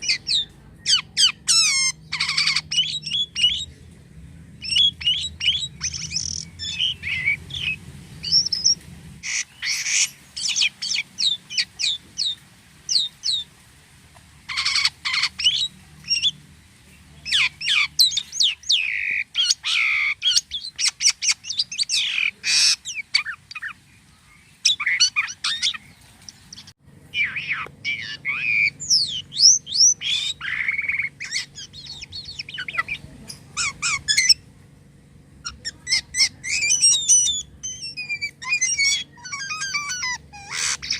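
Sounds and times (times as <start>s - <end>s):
starling singing: 0.0s - 13.5s, 14.4s - 34.5s, 35.4s - 40.9s.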